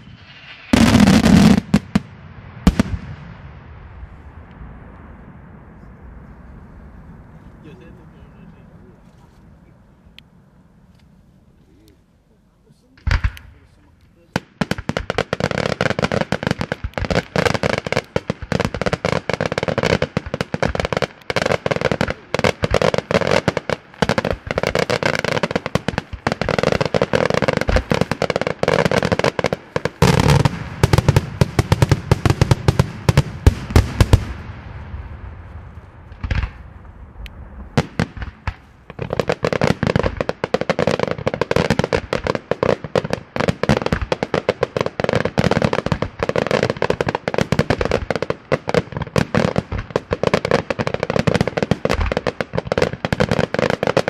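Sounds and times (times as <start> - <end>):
fireworks bangs and crackling: 0.0 - 11.9, 12.6 - 54.0.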